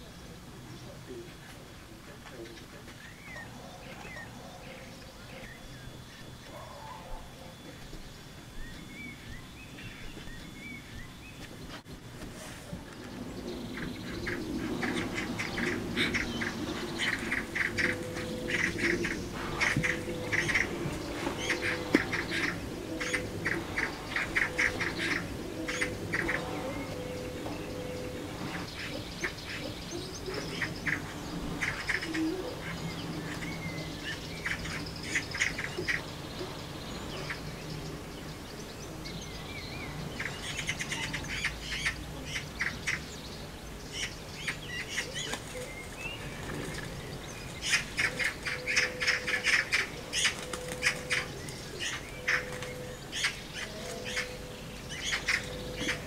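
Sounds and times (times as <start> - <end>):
magpies chattering: 0.0 - 56.0.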